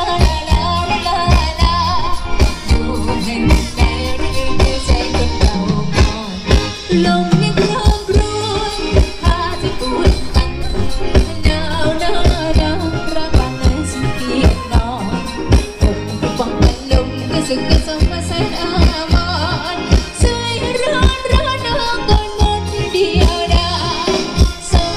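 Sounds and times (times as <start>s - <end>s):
person singing: 0.0s - 24.9s
steady drum beat: 0.0s - 24.9s.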